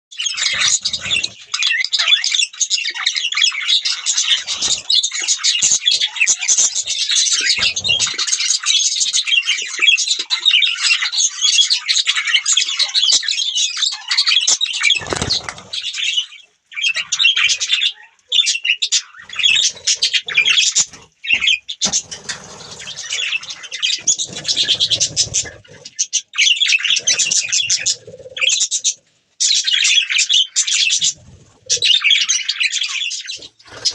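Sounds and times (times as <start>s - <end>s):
budgerigars chirping and chattering: 0.1s - 33.9s.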